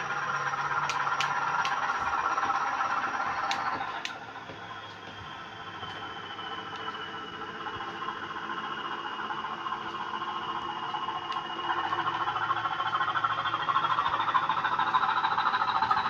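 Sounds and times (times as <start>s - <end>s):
high whine: 0.0s - 16.0s
model locomotive diesel engine sound: 0.0s - 16.0s
motor and wheel noise: 0.0s - 16.0s.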